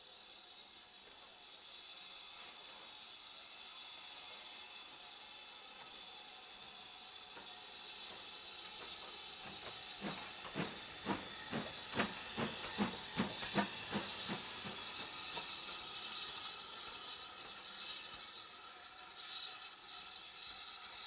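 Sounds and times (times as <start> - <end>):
steam hissing: 0.0 - 21.0
steam locomotive exhaust beats: 0.0 - 21.0.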